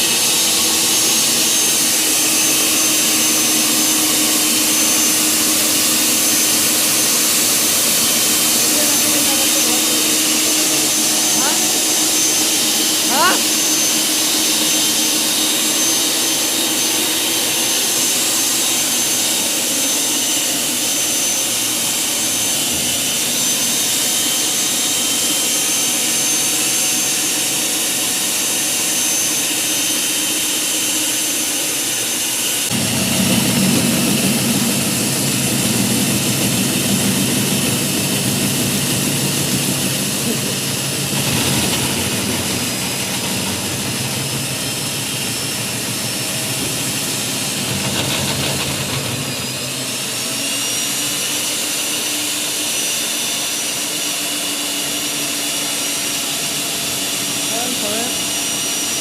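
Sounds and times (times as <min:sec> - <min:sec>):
core drill boring through concrete: 0:00.0 - 0:59.0.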